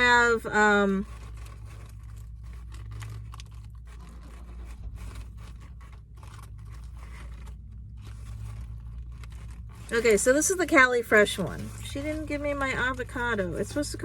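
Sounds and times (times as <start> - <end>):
paper tearing: 0.0 - 14.0
wrapping paper crinkling: 0.0 - 14.0.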